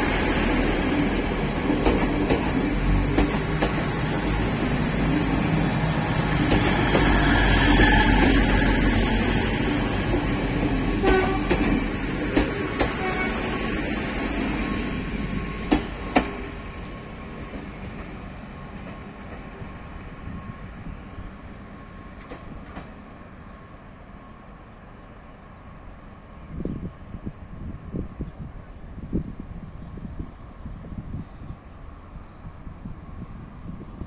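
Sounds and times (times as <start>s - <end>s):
diesel railbus passing: 0.0s - 34.0s.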